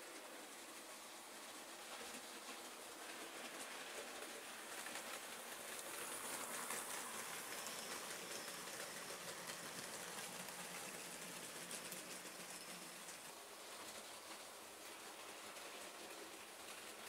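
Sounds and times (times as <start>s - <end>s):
model railway wagons rattling: 0.0s - 17.0s.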